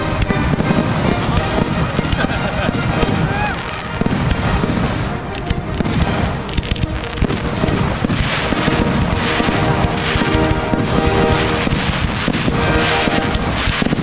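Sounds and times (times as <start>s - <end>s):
fireworks bursting: 0.0s - 14.0s
music playing: 0.0s - 14.0s.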